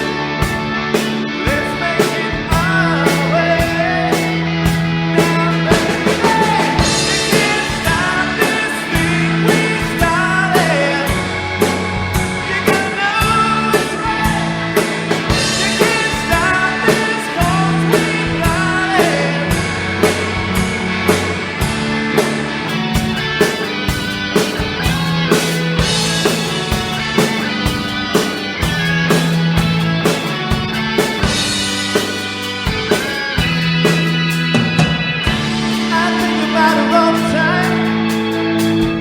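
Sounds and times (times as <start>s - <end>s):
drum kit beat: 0.0s - 39.0s
rock band playing live: 0.0s - 39.0s.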